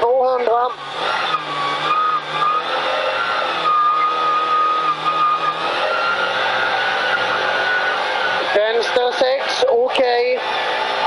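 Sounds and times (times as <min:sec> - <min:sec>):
car engine running hard: 0:00.0 - 0:11.0
road noise: 0:00.0 - 0:11.0.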